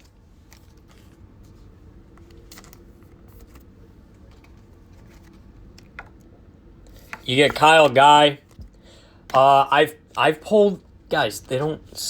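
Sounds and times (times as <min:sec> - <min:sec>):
trading cards clicking and rustling: 0:00.0 - 0:06.3, 0:06.9 - 0:12.0
low room hum: 0:00.0 - 0:12.0.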